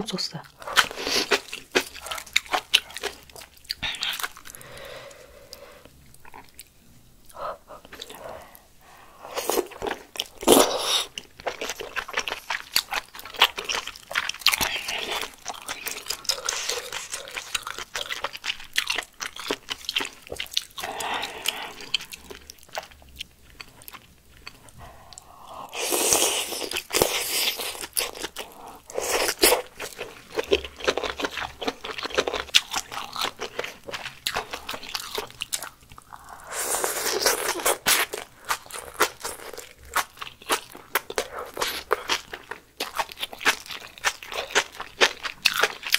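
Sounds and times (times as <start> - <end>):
wet chewing of noodles: 0.5 - 45.9.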